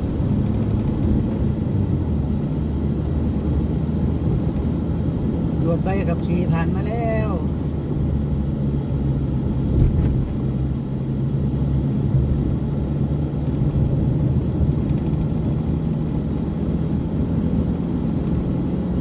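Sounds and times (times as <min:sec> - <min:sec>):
road and wind noise: 0:00.0 - 0:19.0
vehicle engine hum: 0:00.0 - 0:19.0.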